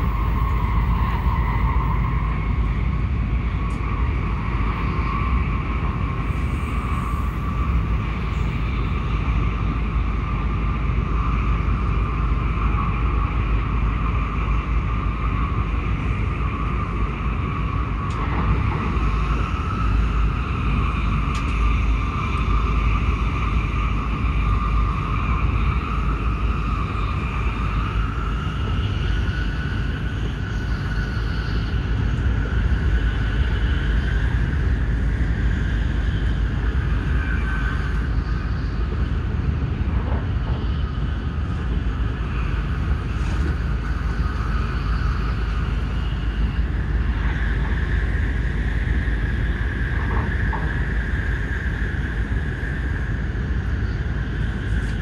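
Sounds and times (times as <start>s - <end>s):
train deep rumble: 0.0s - 55.0s.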